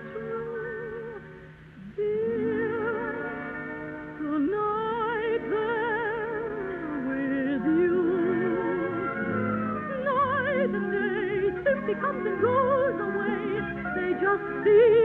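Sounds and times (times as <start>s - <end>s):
operetta singer with vibrato: 0.0s - 15.0s.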